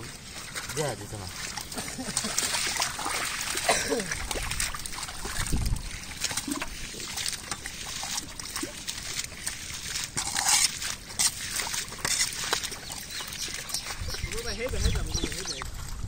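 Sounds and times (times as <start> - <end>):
water sloshing and splashing: 0.0 - 16.0
wet squelches: 0.0 - 16.0.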